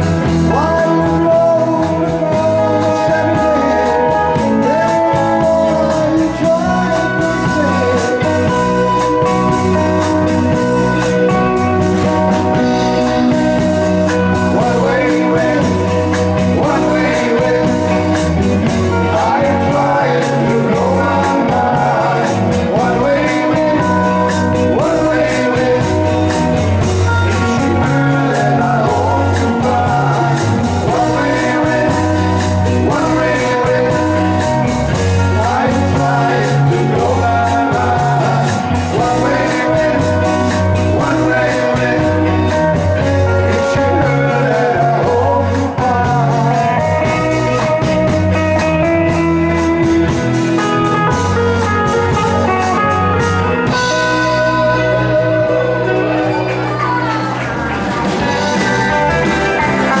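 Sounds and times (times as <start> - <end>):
drum kit with cymbals: 0.0 - 55.6, 56.6 - 60.0
electric bass line: 0.0 - 60.0
electric guitar: 0.0 - 60.0.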